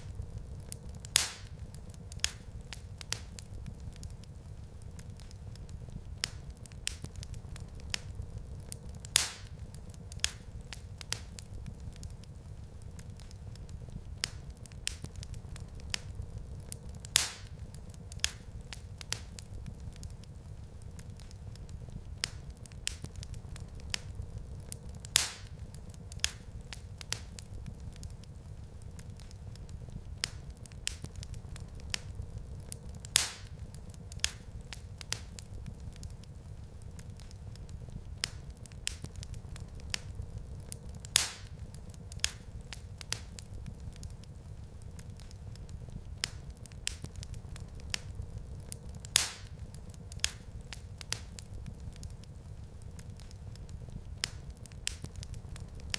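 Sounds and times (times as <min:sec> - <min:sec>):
loud fire pops: 0:00.0 - 0:55.9
wood fire crackling: 0:00.0 - 0:55.9.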